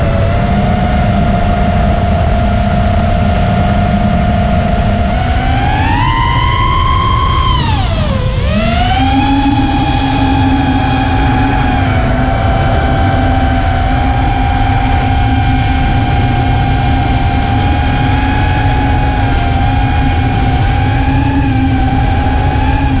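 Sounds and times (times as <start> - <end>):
heavy low rumble: 0.0 - 23.0
quadcopter motors whining: 0.0 - 23.0.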